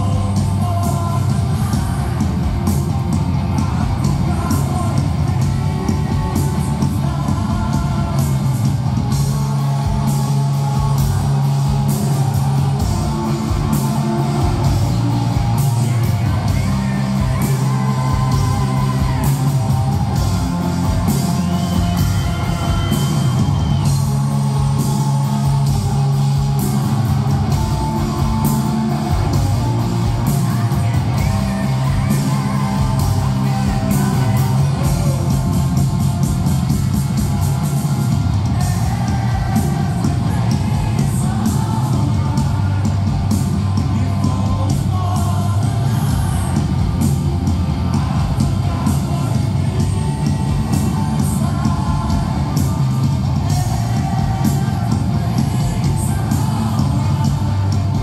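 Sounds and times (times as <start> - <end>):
bass: 0.0 - 58.0
drums: 0.0 - 58.0
electric guitars: 0.0 - 58.0
lead vocals: 0.0 - 58.0.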